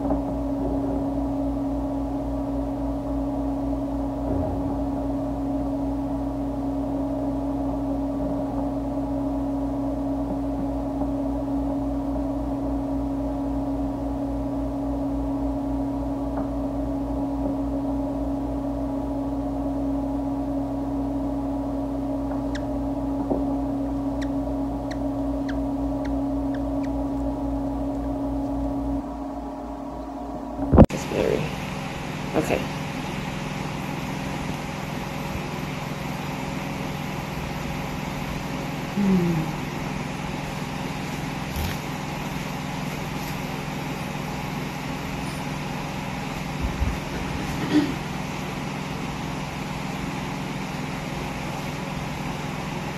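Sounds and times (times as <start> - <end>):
steady electrical hum: 0.0 - 52.9.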